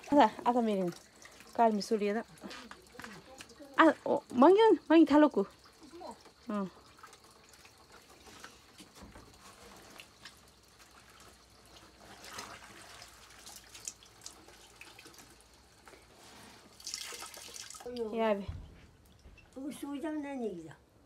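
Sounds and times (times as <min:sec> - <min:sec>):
cloth washed in bucket of water: 0:00.0 - 0:19.7
water dripping: 0:00.0 - 0:20.7.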